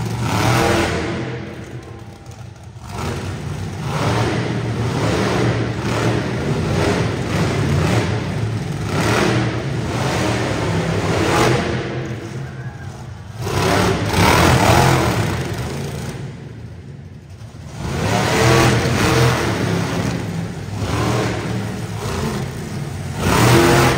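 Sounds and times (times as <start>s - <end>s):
truck engine revving: 0.0s - 23.9s.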